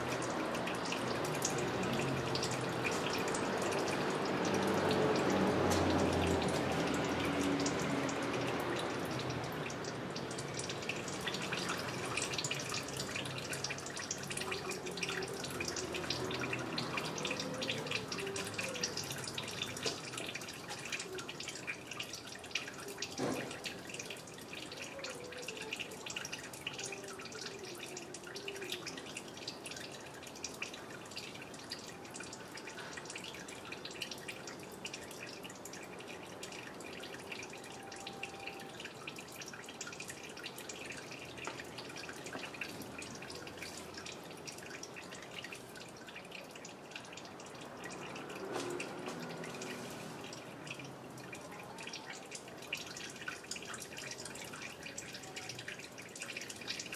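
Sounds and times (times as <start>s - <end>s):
fluid draining and dripping: 0.0s - 56.9s.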